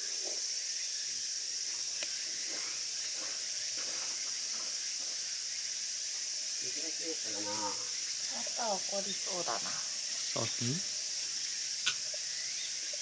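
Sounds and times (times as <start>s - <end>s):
shrill insect chorus: 0.0s - 13.0s.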